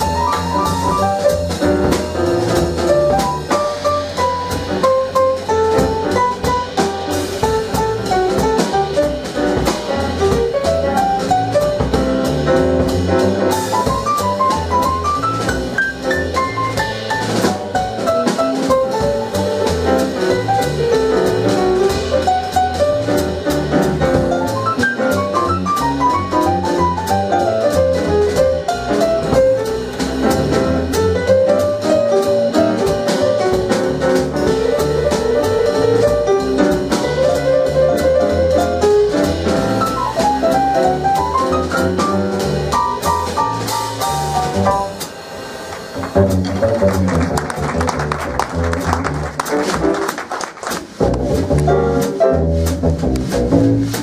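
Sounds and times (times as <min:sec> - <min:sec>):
bass: 0:00.0 - 0:54.0
drum kit: 0:00.0 - 0:54.0
jazz piano solo: 0:00.0 - 0:54.0.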